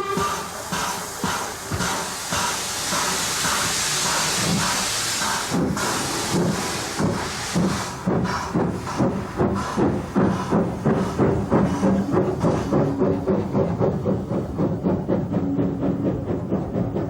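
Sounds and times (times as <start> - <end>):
locomotive exhaust beats: 0.0 - 17.0
steam locomotive hissing steam: 0.0 - 17.0.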